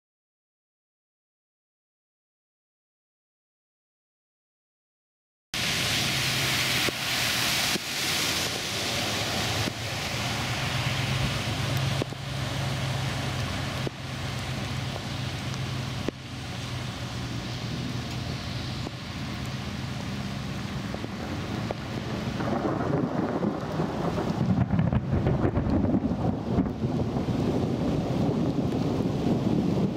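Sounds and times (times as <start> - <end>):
heavy rain pouring: 5.6 - 29.9
truck splashing through floodwater: 5.6 - 29.9.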